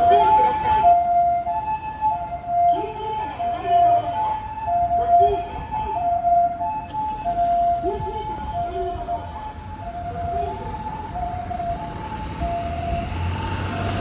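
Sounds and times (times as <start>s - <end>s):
ambulance two-tone siren: 0.0s - 14.0s.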